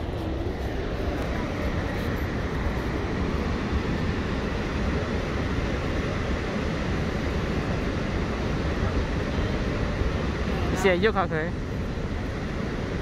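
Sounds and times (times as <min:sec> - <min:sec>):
waterfall rushing and rumbling: 0:00.0 - 0:13.0.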